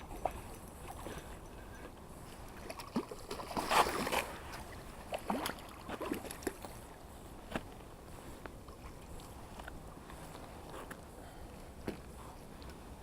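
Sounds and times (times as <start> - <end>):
water splashing and sloshing: 0.0 - 10.9.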